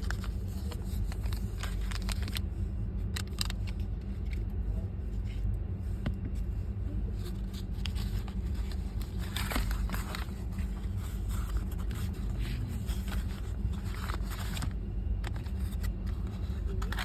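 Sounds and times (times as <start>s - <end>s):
light clicks and scrapes: 0.0s - 6.5s, 7.1s - 17.0s.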